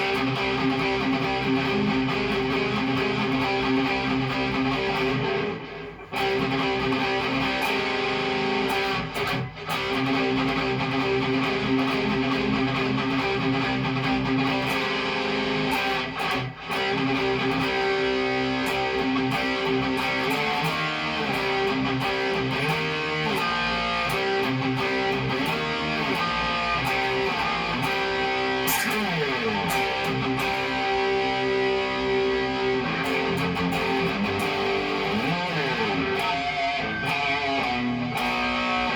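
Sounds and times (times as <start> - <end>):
guitar chords ringing: 0.0 - 38.9
guitar notes sliding in pitch: 0.1 - 38.9.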